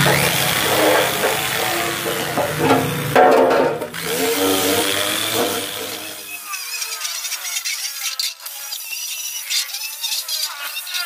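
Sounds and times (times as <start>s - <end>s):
angle grinder grinding metal: 0.0s - 11.0s.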